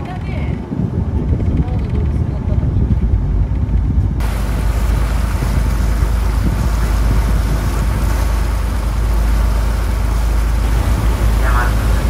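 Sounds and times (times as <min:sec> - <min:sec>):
boat engine drone: 0:00.0 - 0:12.0
wind noise on microphone: 0:00.0 - 0:12.0.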